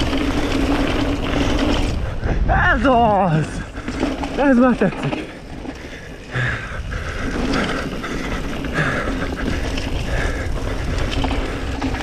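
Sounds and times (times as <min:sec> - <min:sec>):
bicycle freehub buzzing: 0:00.0 - 0:12.0
bike tyre rumble on dirt: 0:00.0 - 0:12.0
wind buffeting microphone: 0:00.0 - 0:12.0.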